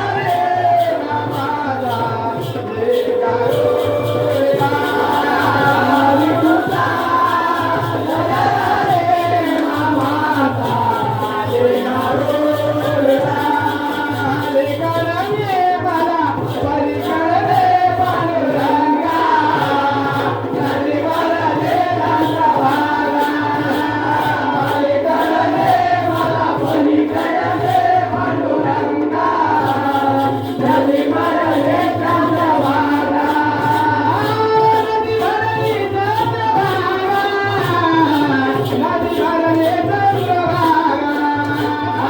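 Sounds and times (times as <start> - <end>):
chorus singing: 0.0 - 42.0
people singing: 0.0 - 42.0
percussion beat: 0.0 - 42.0.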